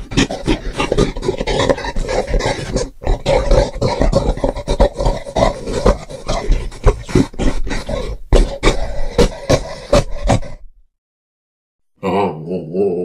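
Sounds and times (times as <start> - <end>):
creature growls and grunts: 0.0 - 10.6, 12.0 - 13.0.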